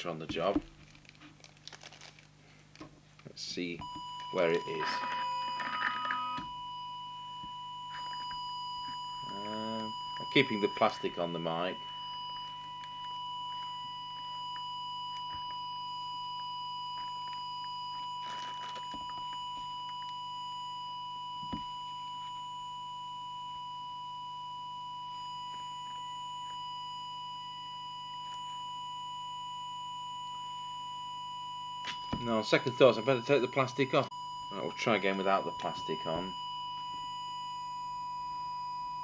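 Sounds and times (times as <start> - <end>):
steady test tone: 3.4 - 39.0.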